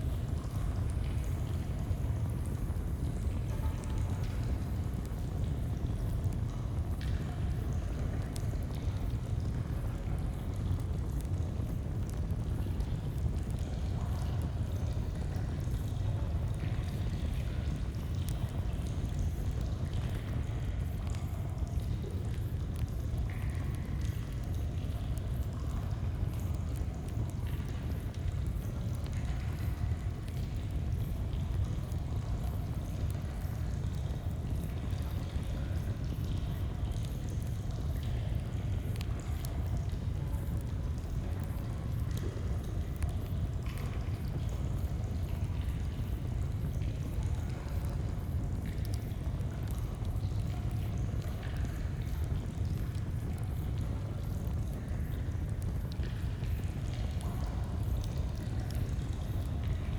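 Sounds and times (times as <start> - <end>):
faint campfire crackles: 0.0 - 59.9.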